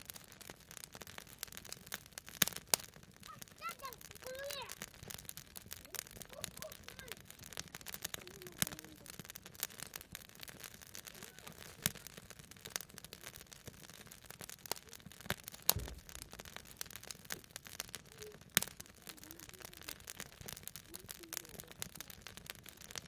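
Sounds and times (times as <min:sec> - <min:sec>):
campfire crackling: 0:00.0 - 0:23.0
sharp pops from burning logs: 0:00.0 - 0:23.0.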